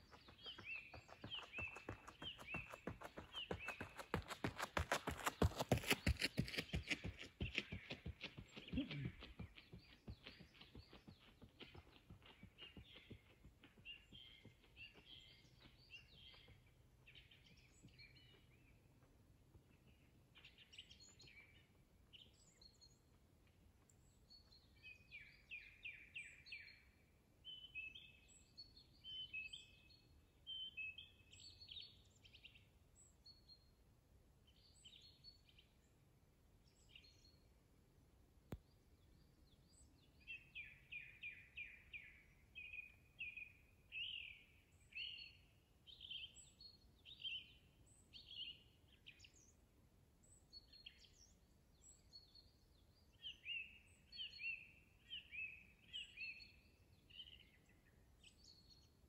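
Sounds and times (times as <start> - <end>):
faint songbirds chirping: 0.0 - 59.0.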